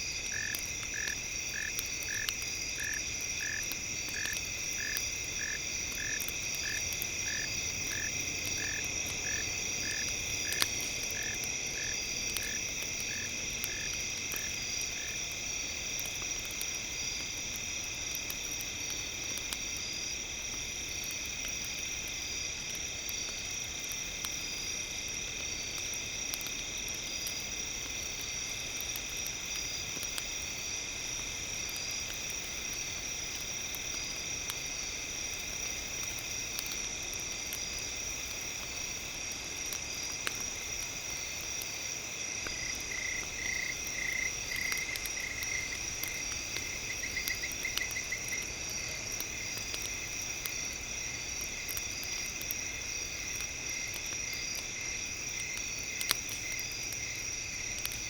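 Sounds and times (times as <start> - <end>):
campfire crackling: 0.0 - 58.0
crickets and insects chirping: 0.0 - 58.0.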